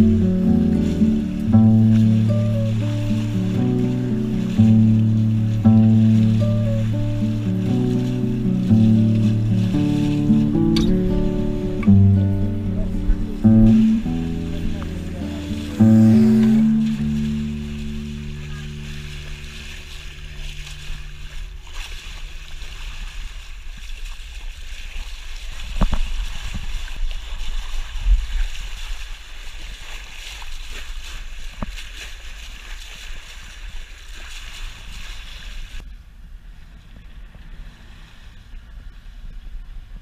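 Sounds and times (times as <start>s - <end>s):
wind rumble on microphone: 0.0s - 32.1s
water splashing at boat bow: 0.0s - 40.0s.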